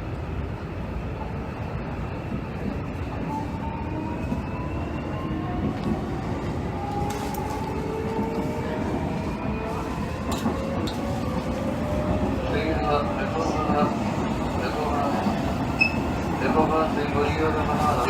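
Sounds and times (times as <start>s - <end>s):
wheel and rail rumble: 0.0s - 18.0s.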